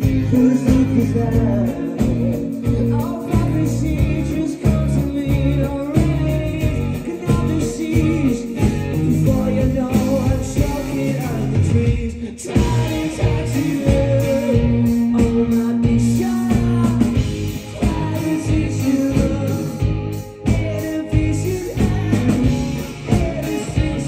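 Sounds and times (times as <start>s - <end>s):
lead singer singing: 0.0s - 24.0s
rock band playing live: 0.0s - 24.0s.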